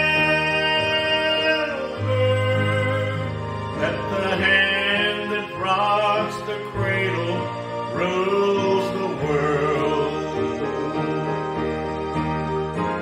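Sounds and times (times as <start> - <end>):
man singing: 0.0 - 11.8
instrumental accompaniment: 0.0 - 13.0.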